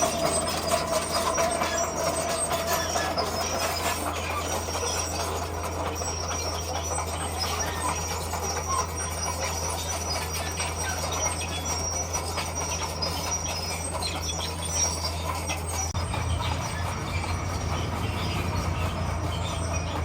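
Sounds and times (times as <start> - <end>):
bulldozer diesel engine: 0.0 - 20.0
steel tracks clattering: 0.0 - 20.0
track links squeaking: 0.0 - 20.0.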